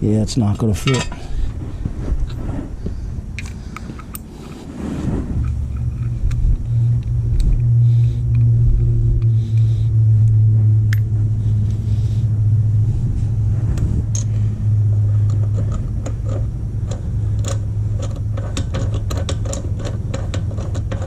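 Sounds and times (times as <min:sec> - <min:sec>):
low motor hum: 0:00.0 - 0:21.0
rumbling noise: 0:00.0 - 0:21.0.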